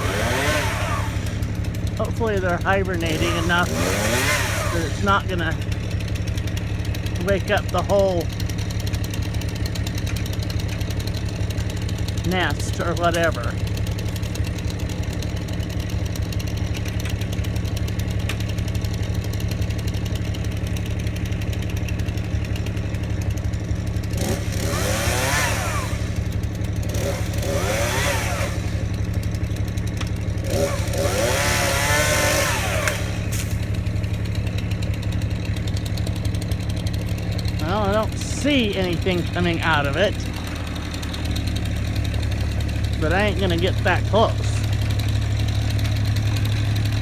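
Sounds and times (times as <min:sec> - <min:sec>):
chainsaw engine idling and revving: 0:00.0 - 0:47.0.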